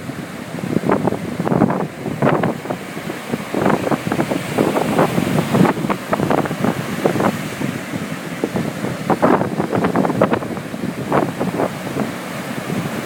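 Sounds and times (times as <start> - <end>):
small waves breaking on shore: 0.0 - 13.0
wind buffeting microphone: 0.0 - 13.0.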